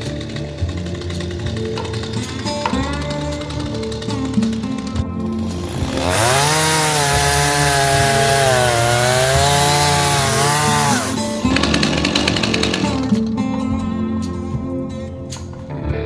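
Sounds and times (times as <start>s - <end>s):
chainsaw revving: 0.0s - 13.2s
guitar music: 0.0s - 16.0s.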